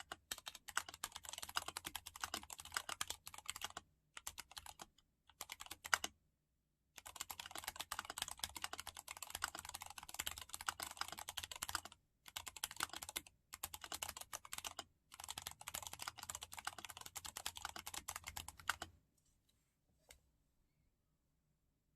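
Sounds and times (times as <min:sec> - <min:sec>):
mechanical keyboard typing: 0:00.0 - 0:06.1, 0:07.0 - 0:18.9.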